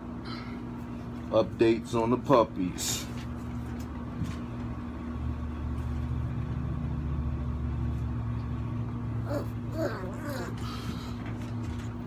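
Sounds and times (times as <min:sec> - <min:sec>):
air conditioner running: 0:00.0 - 0:12.0.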